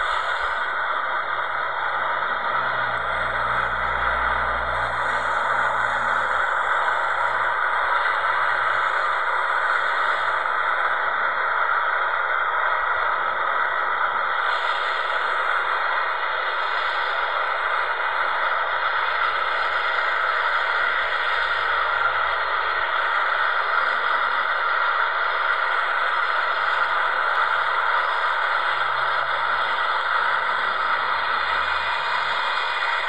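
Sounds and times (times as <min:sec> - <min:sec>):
faint thin whine: 0:00.0 - 0:33.0
jet engines roaring: 0:00.0 - 0:33.0.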